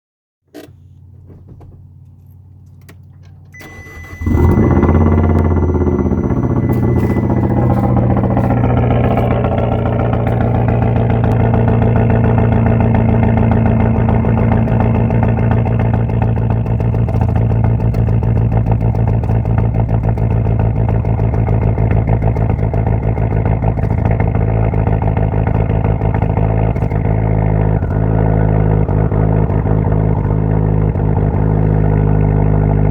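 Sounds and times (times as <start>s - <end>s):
car engine starting and running: 0.5s - 32.9s
unusual engine noise: 0.6s - 32.9s.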